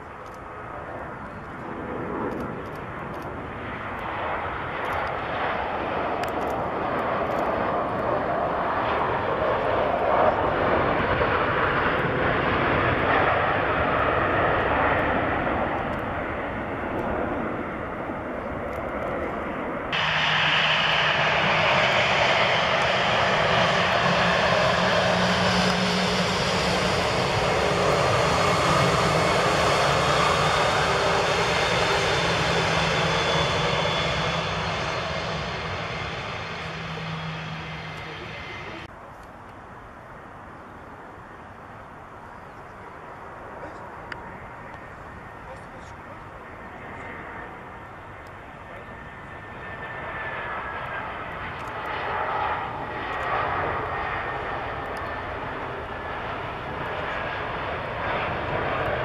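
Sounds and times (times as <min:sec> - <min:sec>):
jet engines humming while taxiing: 0:00.0 - 0:59.0
jet engines landing: 0:00.0 - 0:59.0.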